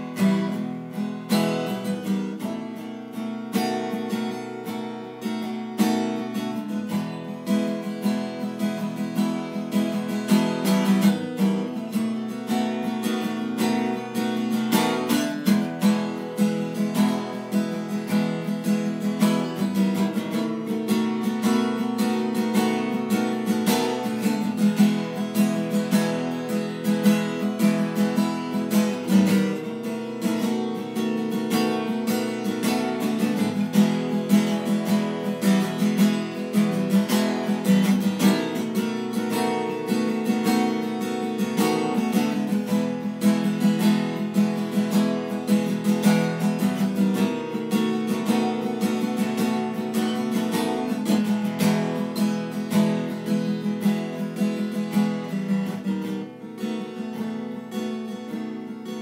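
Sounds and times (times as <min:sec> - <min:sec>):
strummed acoustic guitar: 0:00.0 - 0:59.0.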